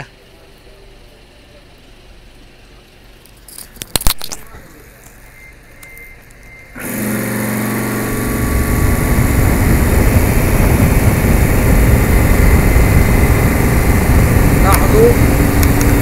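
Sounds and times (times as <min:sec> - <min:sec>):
compressor motor hum: 0:00.0 - 0:16.0.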